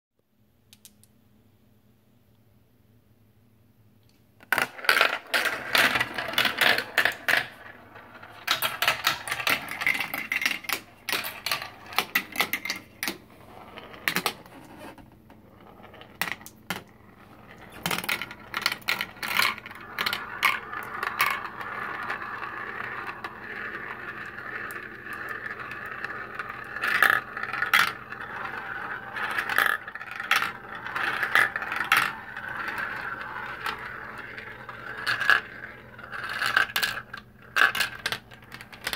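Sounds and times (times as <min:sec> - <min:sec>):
marbles clattering through plastic run: 0:04.4 - 0:14.9, 0:15.5 - 0:38.9
marbles rolling whir: 0:04.4 - 0:38.9.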